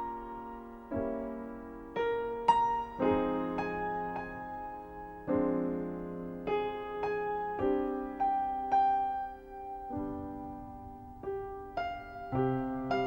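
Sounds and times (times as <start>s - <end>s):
solo piano chords and notes: 0.0s - 13.0s.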